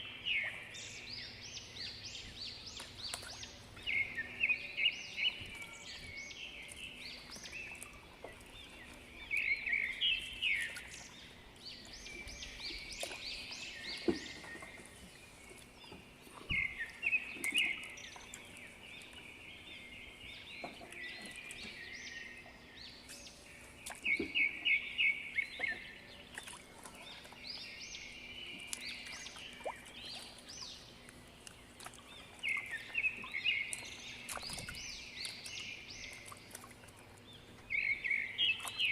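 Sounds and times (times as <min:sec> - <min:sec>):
birds chirping trills: 0:00.0 - 0:38.9.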